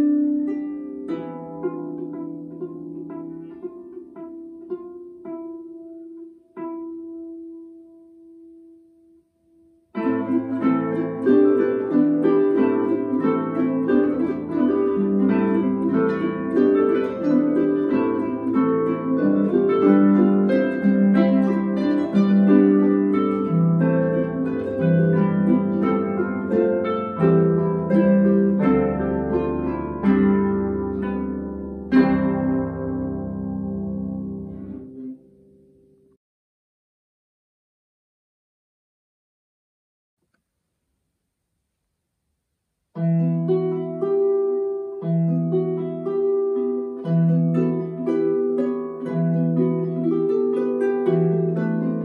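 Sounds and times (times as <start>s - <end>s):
harps playing: 0.0s - 8.8s, 9.9s - 36.0s, 43.0s - 52.0s.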